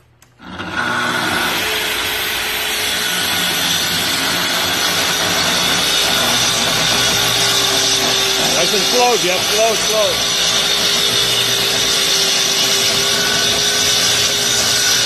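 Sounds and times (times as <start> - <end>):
track saw cutting a sheet: 0.4 - 15.0.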